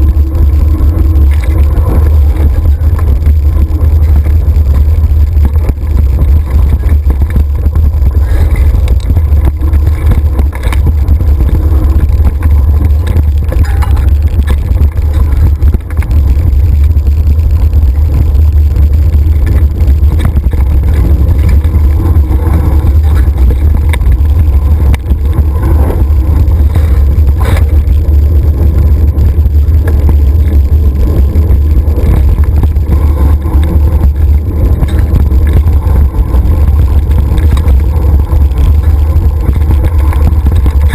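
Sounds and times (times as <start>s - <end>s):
bike tyre noise on trail: 0.0s - 40.9s
wind buffeting microphone: 0.0s - 40.9s.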